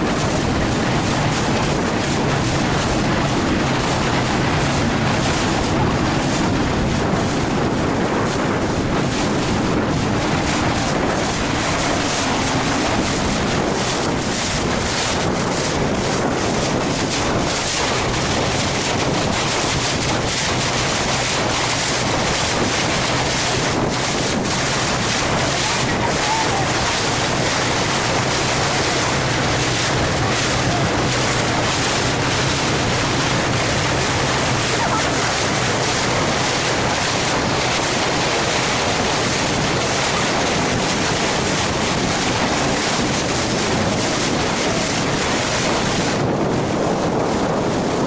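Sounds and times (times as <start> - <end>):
water rushing past boat: 0.0 - 48.0
wind buffeting microphone: 0.0 - 48.0.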